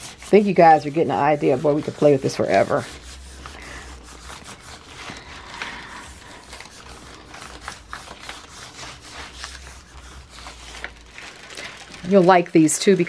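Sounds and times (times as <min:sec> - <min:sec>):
tissue paper crackling and rustling: 0:00.0 - 0:13.0.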